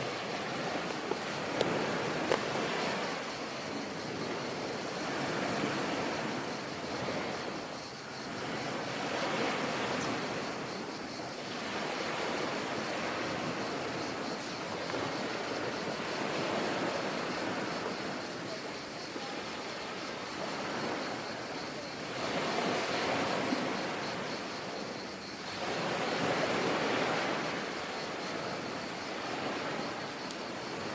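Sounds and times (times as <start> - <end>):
waves breaking and washing in: 0.0 - 30.9.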